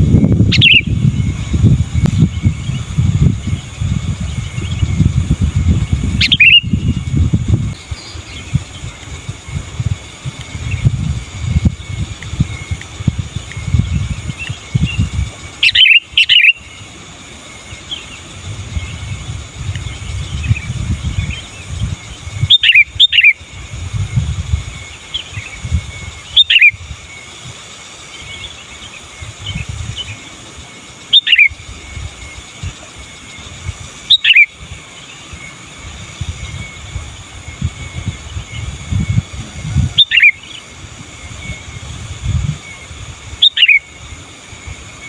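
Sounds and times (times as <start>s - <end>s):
faint bird chirps: 0.0s - 5.1s, 5.7s - 44.0s
bird singing falling phrases: 0.0s - 23.5s, 24.7s - 26.8s, 31.0s - 31.6s, 32.2s - 39.3s, 39.9s - 41.8s, 42.6s - 44.0s.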